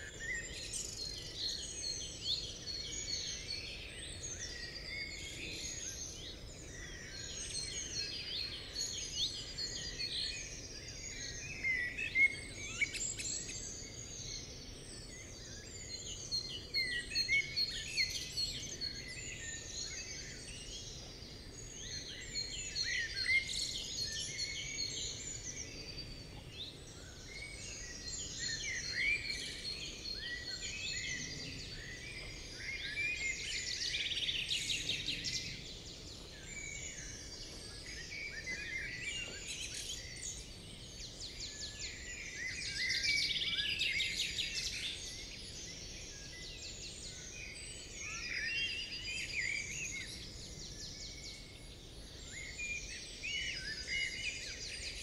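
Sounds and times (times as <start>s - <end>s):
birds chirping in chorus: 0.0s - 55.0s.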